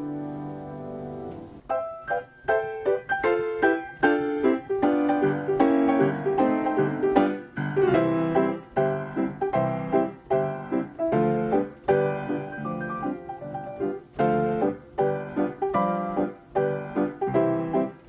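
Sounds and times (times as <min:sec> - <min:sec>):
player piano playing a tune: 0:00.0 - 0:18.0.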